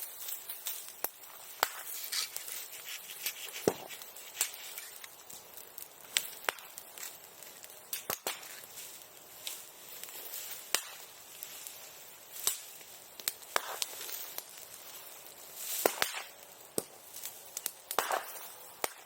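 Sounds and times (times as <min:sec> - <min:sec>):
bonfire popping and crackling: 0:00.0 - 0:19.0
fire hissing: 0:00.0 - 0:19.0.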